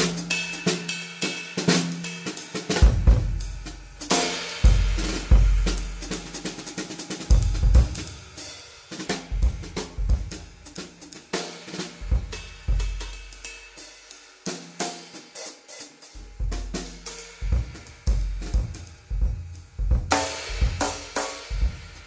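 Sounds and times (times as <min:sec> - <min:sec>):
drum kit groove: 0:00.0 - 0:22.0.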